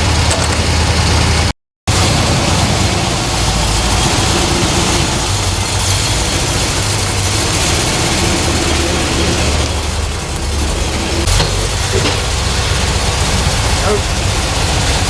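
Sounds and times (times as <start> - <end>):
engine low drone: 0.0 - 15.0.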